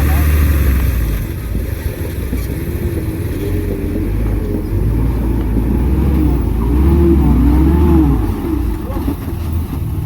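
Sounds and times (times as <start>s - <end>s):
heavy diesel engine under load: 0.0s - 10.0s.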